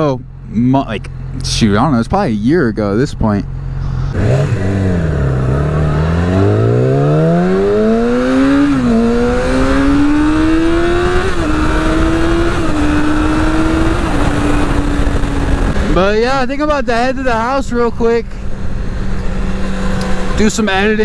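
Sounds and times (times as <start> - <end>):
motorcycle engine accelerating: 0.0 - 17.4, 18.4 - 21.0
wind noise: 3.1 - 20.4.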